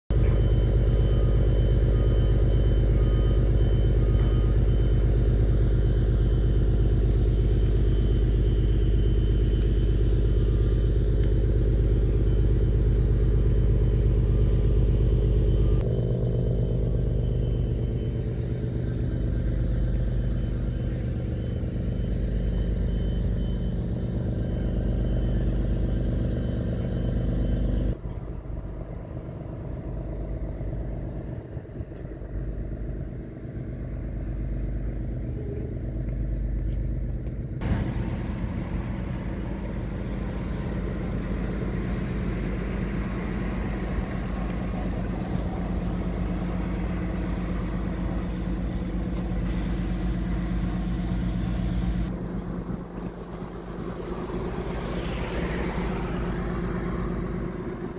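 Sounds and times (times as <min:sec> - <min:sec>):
ship diesel engines rumbling: 0:00.1 - 0:57.9.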